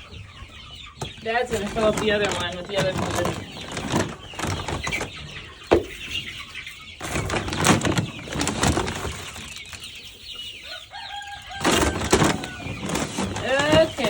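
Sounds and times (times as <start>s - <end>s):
young chickens clucking and chirping: 0.0s - 14.0s
rustling and scraping: 0.5s - 10.8s, 11.4s - 14.0s.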